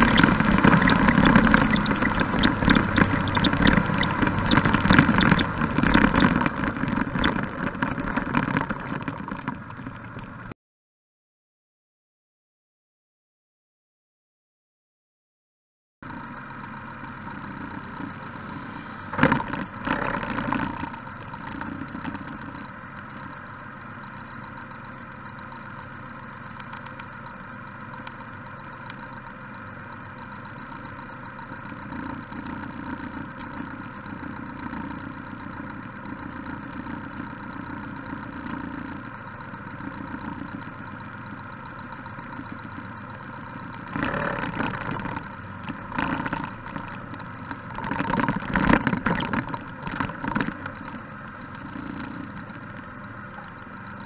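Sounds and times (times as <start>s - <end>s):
engine idling: 0.0s - 10.5s, 16.0s - 54.0s.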